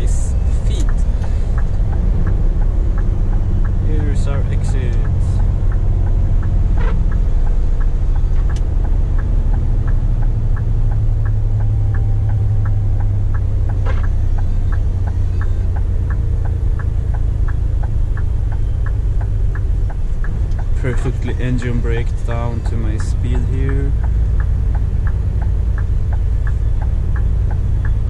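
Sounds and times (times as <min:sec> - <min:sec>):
truck diesel engine droning: 0:00.0 - 0:28.0
turn signal ticking: 0:00.0 - 0:28.0.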